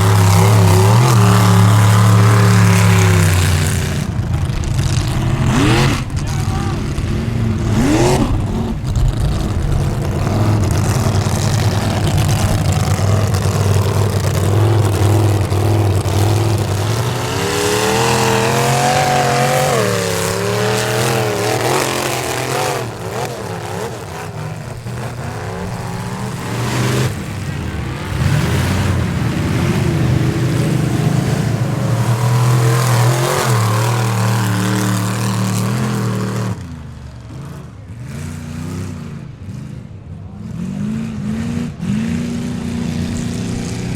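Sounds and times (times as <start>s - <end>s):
pickup engine at high revs: 0.0s - 43.9s.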